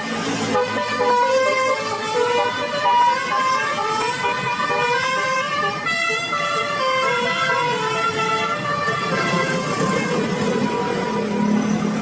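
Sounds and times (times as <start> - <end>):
bus musical horn playing tune: 0.3 - 11.5.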